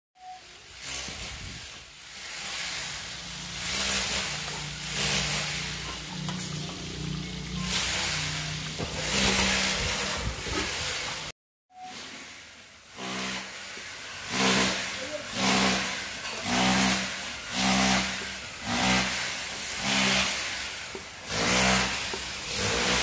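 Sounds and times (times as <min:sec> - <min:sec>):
gas wok burner roaring: 0:00.2 - 0:23.0.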